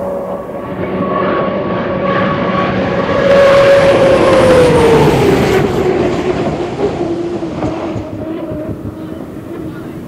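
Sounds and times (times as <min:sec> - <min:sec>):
turbine engine roaring with whine: 0:00.0 - 0:10.0.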